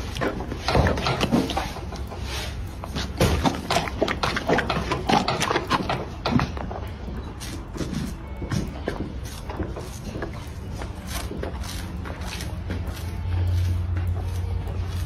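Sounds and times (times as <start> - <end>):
horse chewing with wet smacks: 0.0 - 15.0.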